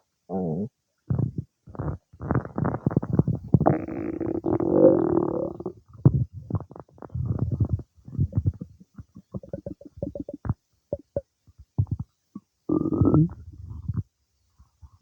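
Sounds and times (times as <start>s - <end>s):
stomach gurgling: 0.3s - 14.1s
long pitched stomach rumble: 0.6s - 12.1s, 12.7s - 14.1s.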